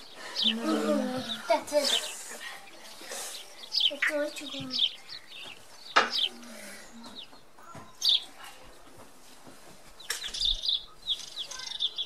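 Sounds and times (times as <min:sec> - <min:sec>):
small bird chirping: 0:00.0 - 0:08.9, 0:10.0 - 0:12.0.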